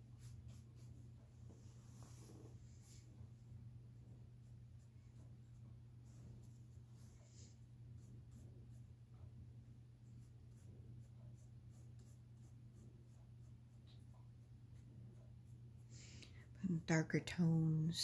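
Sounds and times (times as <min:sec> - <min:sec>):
paintbrush strokes on canvas: 0:00.0 - 0:16.6.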